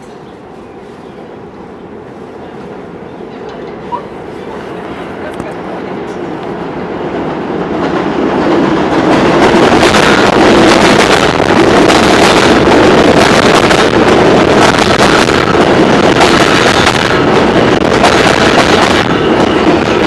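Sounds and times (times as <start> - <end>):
subway train rumbling past: 0.0 - 20.0.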